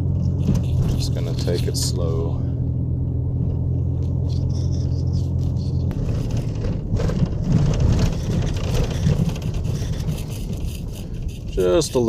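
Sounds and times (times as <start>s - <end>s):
tyres rumbling on rough road: 0.0s - 12.0s
van engine humming: 0.0s - 12.0s.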